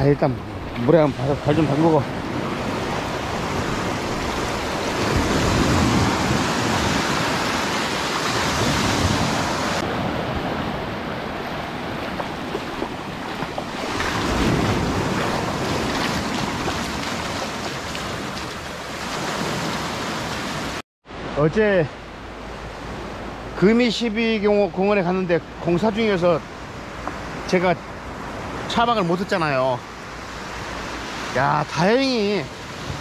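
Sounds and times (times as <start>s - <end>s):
small waves washing on sand: 0.6s - 21.3s, 25.6s - 33.0s.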